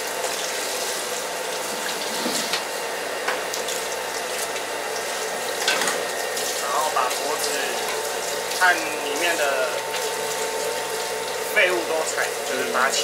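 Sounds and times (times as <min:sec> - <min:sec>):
water running in a basin: 0:00.0 - 0:13.0.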